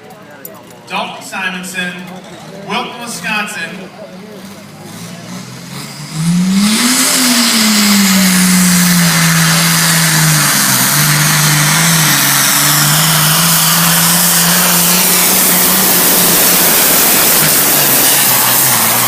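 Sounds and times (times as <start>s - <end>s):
tractor engine at full throttle: 0.0s - 19.0s.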